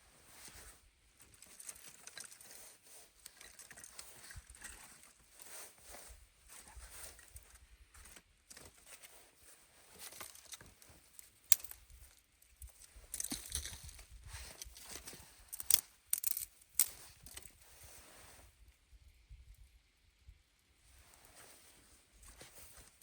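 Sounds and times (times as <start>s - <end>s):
rustling scraping and crunching: 0.0s - 18.6s, 20.9s - 23.0s.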